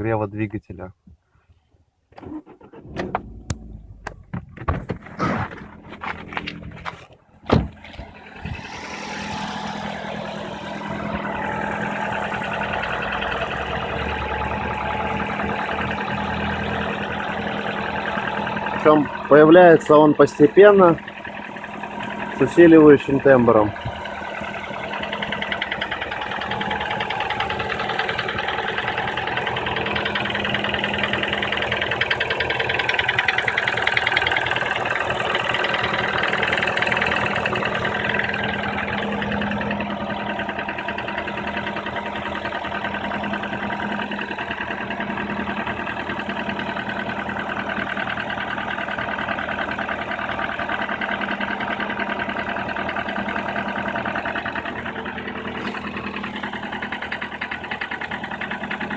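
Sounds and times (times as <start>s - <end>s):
car engine knocking: 3.2s - 8.7s, 9.6s - 58.9s.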